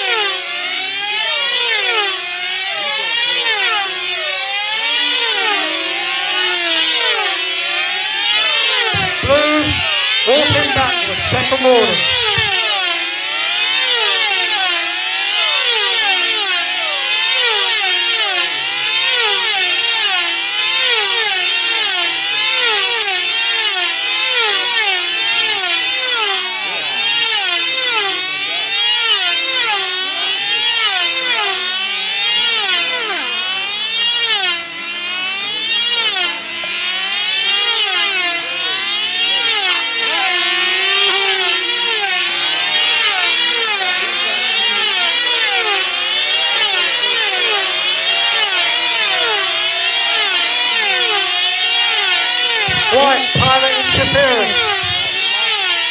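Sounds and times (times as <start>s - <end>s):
model plane engines screaming: 0.0s - 55.9s.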